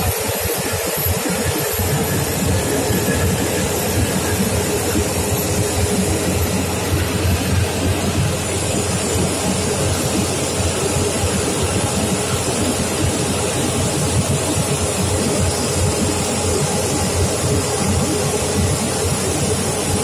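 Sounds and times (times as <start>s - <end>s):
jet engines rumbling: 0.0s - 20.0s
thin steady whine: 0.0s - 20.0s.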